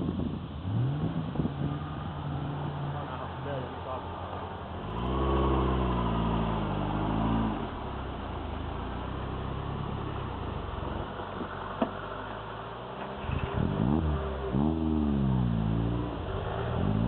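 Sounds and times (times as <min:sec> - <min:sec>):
off-road vehicle engine revving: 0:00.6 - 0:17.0.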